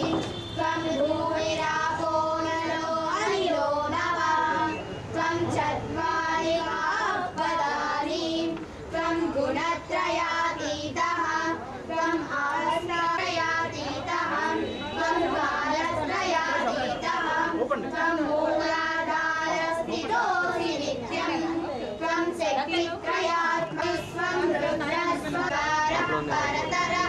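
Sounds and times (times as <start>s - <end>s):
high voices singing slowly: 0.0s - 27.0s.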